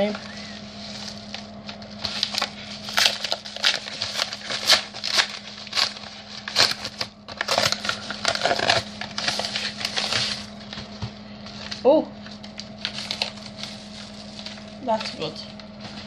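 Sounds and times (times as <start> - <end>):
faint steady hum: 0.0 - 16.0
packaging tearing and crinkling: 1.0 - 10.8, 12.4 - 16.0.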